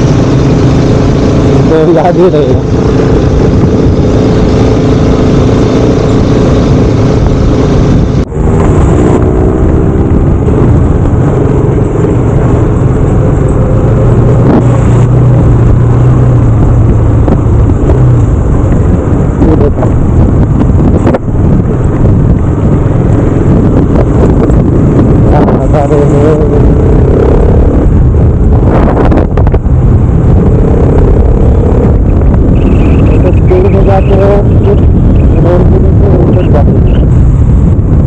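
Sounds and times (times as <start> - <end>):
motorcycle engine running: 0.0 - 38.0
rush of riding noise: 0.0 - 38.0.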